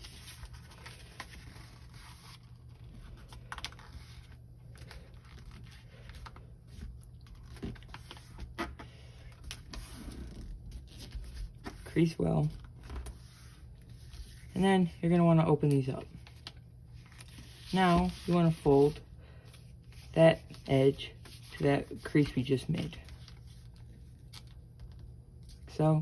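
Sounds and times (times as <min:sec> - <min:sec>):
paper being folded and creased: 0:00.0 - 0:14.5, 0:15.7 - 0:25.6
low background hum: 0:00.0 - 0:26.0.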